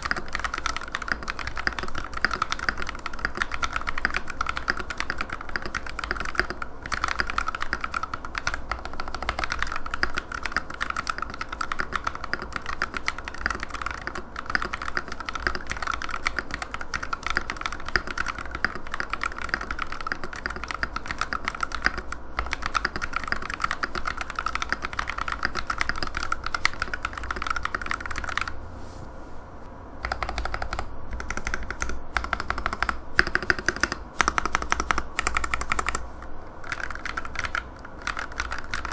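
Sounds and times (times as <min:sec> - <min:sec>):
fast mechanical keyboard typing: 0:00.0 - 0:28.6, 0:30.0 - 0:38.9.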